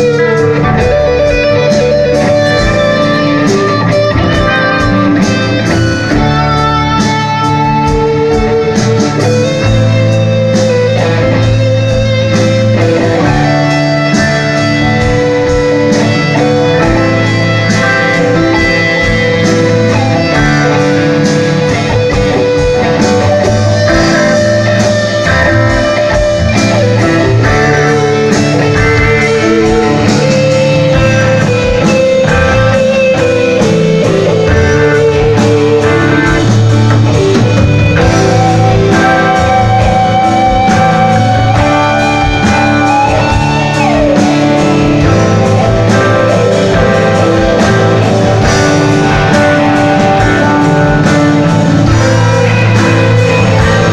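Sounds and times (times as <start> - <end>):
live rock band playing: 0.0 - 53.9
wavering lead melody: 0.0 - 53.9.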